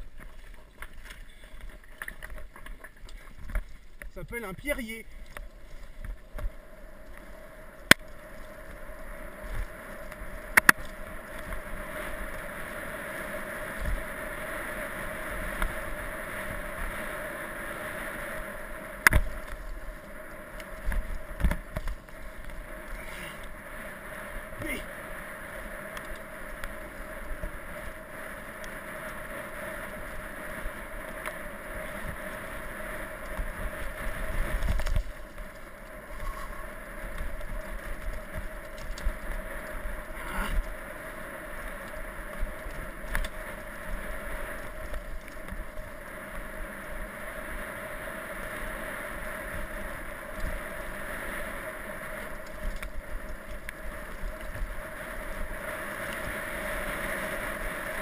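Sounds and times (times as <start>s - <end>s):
bike tyre and drivetrain rattle: 0.0s - 58.0s
wind rush on microphone: 8.2s - 58.0s.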